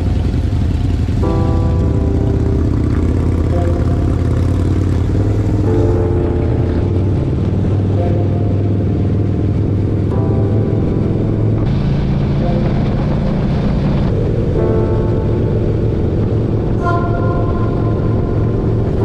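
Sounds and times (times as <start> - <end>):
motorcycle engines pulling away: 0.0 - 19.0.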